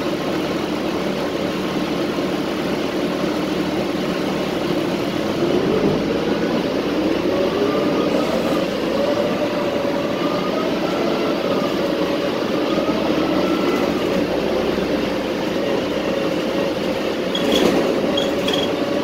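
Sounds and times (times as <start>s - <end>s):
bus engine drone with whine: 0.0s - 19.0s.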